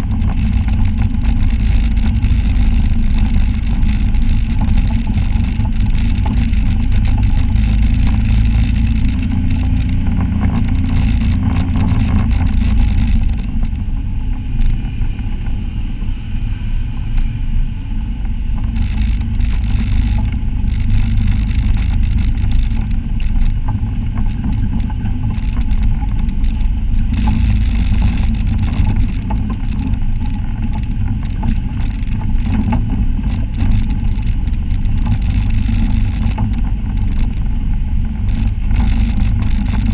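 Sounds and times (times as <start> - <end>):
knocks and rattles over rocks: 0.0 - 13.9, 18.6 - 39.9
engine low rumble: 0.0 - 39.9.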